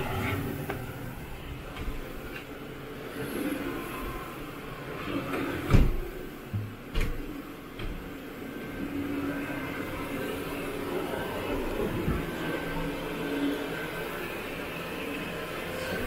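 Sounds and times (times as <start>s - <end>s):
carpet cleaning machine humming: 0.0s - 16.0s.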